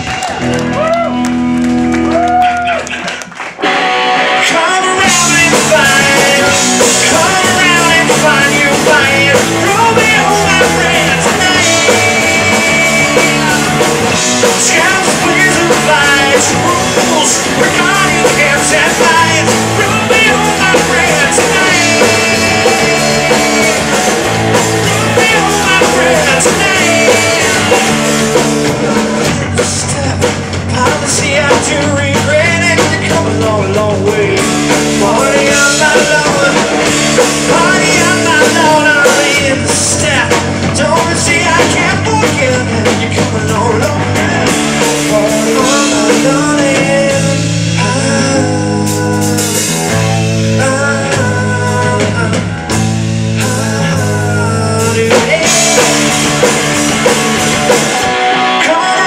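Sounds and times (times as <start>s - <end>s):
rock band playing live: 0.0s - 59.0s
person singing: 4.1s - 59.0s.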